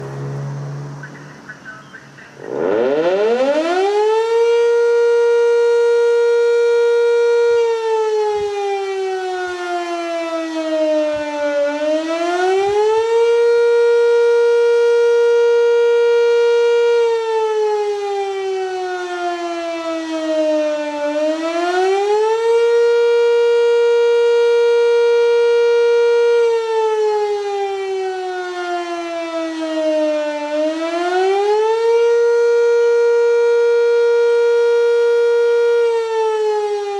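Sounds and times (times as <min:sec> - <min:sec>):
outdoor warning siren: 0:00.0 - 0:36.9.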